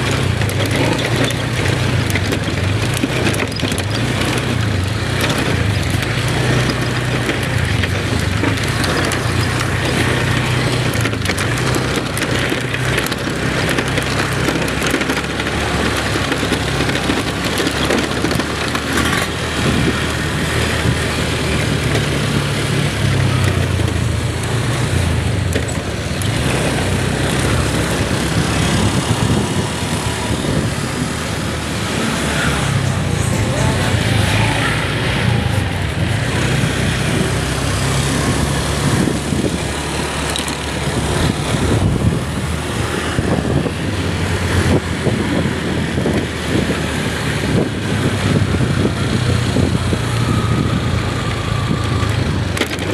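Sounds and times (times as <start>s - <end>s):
road noise rushing: 0.0s - 52.9s
vehicle engine: 0.0s - 52.9s.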